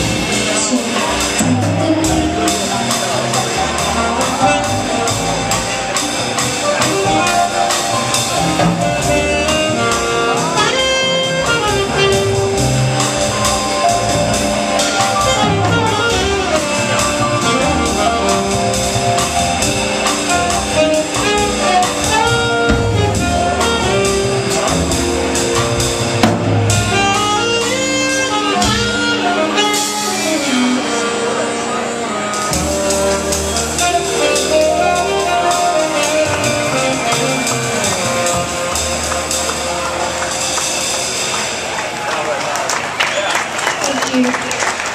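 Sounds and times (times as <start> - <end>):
saxophone melody: 0.0 - 41.3
bass: 0.0 - 44.2
drums: 0.0 - 44.9
piano: 0.0 - 44.9.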